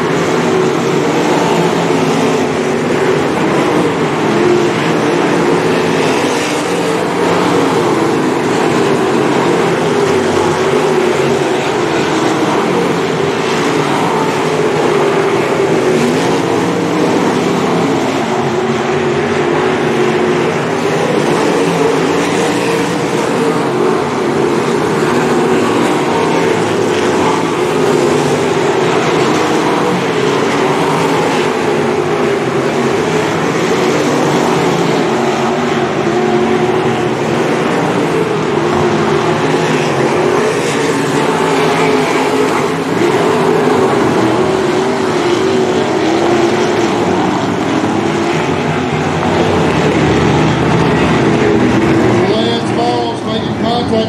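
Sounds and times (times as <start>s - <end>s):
race car engines circling track: 0.0s - 54.0s.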